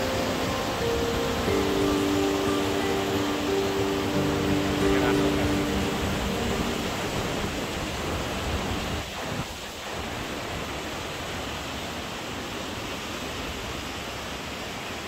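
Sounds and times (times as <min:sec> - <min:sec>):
flowing water hiss: 0:00.0 - 0:15.0.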